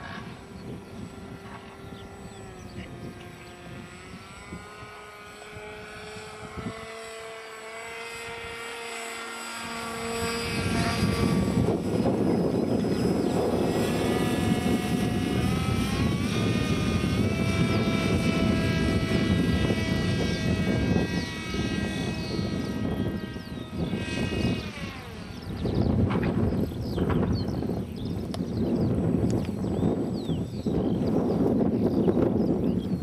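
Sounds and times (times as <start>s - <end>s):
model plane motor whining: 0.0s - 33.0s.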